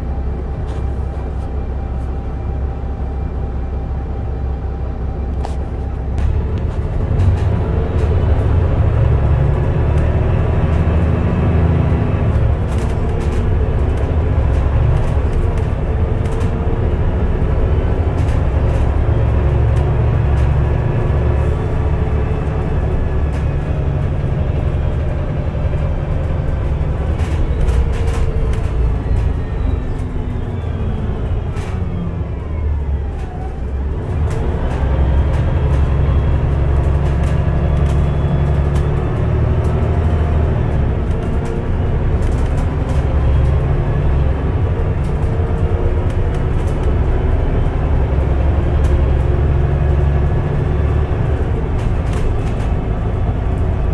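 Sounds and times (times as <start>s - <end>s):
bus engine rumble: 0.0s - 53.9s.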